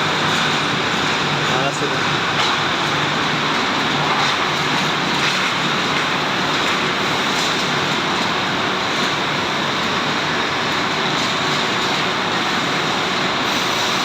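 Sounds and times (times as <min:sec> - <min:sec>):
machining centre running: 0:00.0 - 0:14.0.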